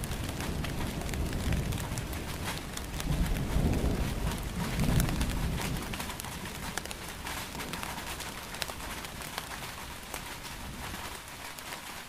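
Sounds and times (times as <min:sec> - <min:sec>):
low rumble of thunder: 0:00.0 - 0:11.2
raindrops ticking close by: 0:00.0 - 0:12.0
steady rainfall: 0:00.0 - 0:12.0.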